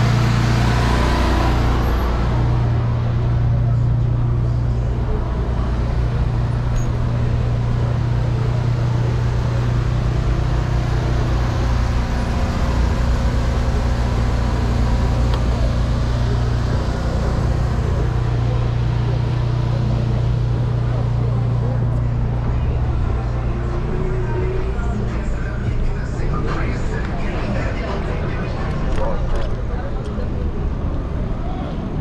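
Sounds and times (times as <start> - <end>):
city traffic: 0.0 - 32.0
wind and road rumble: 0.0 - 32.0.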